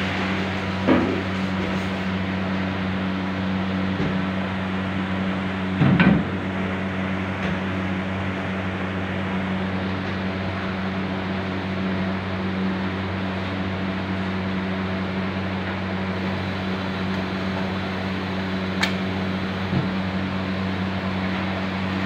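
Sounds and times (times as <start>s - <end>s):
kitchen machinery humming: 0.0s - 22.0s.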